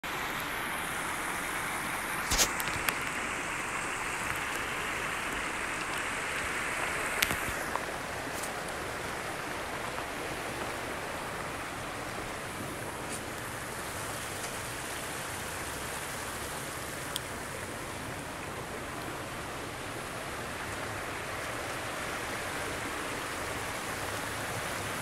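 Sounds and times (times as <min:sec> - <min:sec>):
water rushing over waterfall: 0:00.1 - 0:25.0.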